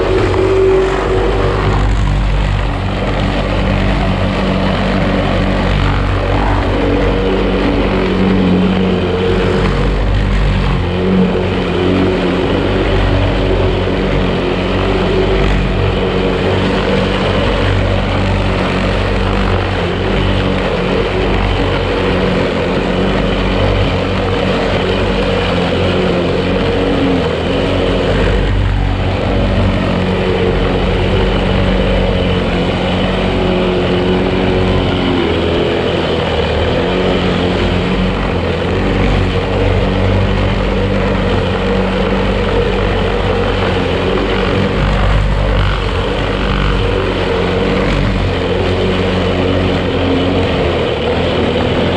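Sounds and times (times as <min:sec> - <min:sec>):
lawn mower engine running: 0:00.0 - 0:51.9.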